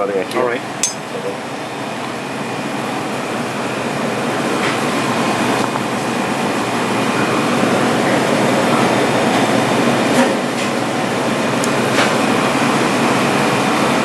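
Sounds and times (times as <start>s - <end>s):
ventilation hum: 0.0s - 14.0s.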